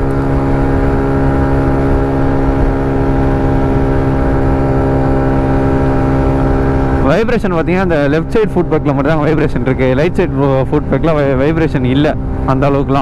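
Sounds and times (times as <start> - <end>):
moped engine at full throttle: 0.0 - 13.0
wind rumble on microphone: 0.0 - 13.0.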